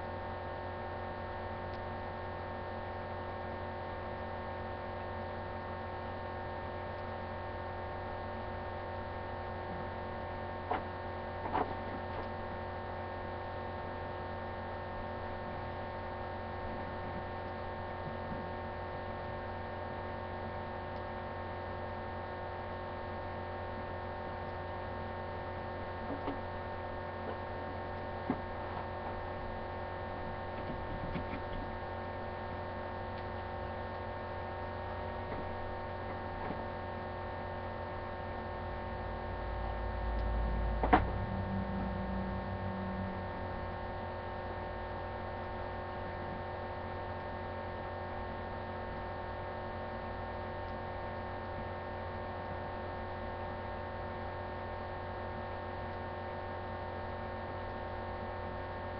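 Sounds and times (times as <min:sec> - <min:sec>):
electrical hum: 0:00.0 - 0:58.9.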